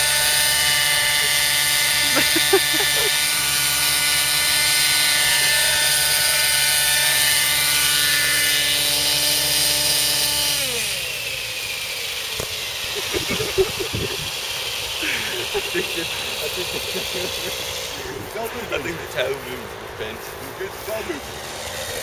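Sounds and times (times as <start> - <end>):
model helicopter engine whine: 0.0 - 22.0.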